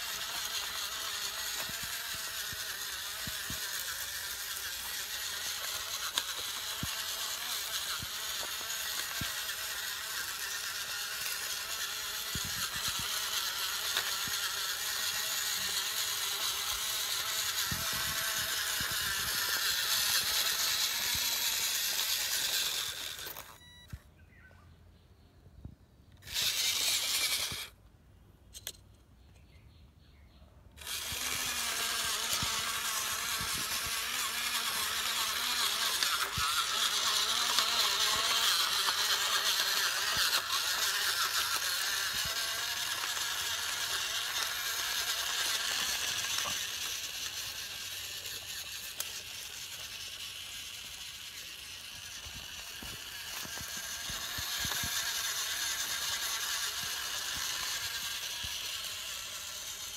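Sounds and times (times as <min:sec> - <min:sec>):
electric motors whirring: 0:00.0 - 0:24.0, 0:26.2 - 0:27.8, 0:30.8 - 0:59.9.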